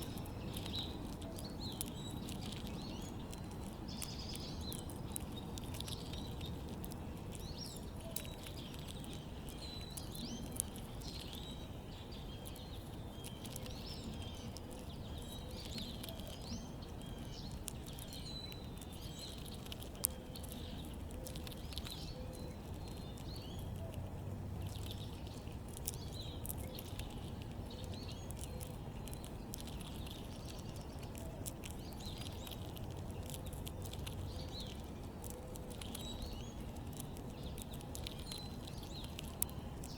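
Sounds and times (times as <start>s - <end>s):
birds chirping: 0.0s - 39.9s
low background rumble: 0.0s - 39.9s.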